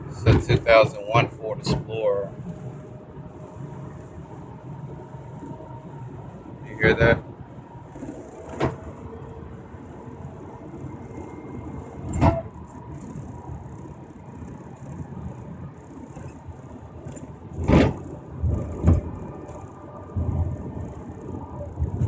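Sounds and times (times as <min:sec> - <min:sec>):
car cabin rumble: 0:00.0 - 0:22.0.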